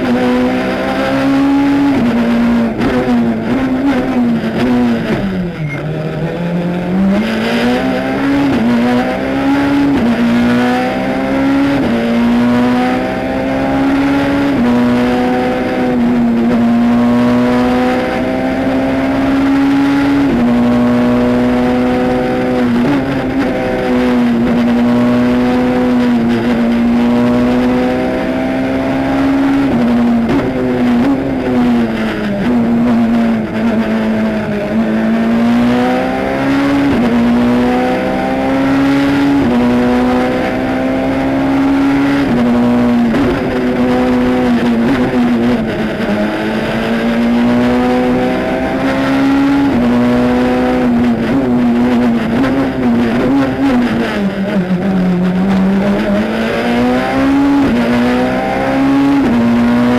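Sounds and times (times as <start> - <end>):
rally car engine at high revs: 0.0 - 59.9.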